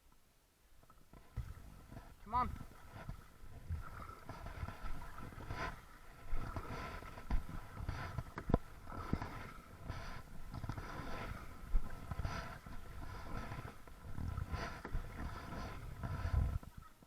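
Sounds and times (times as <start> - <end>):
paddle strokes splashing in water: 0.8 - 16.8.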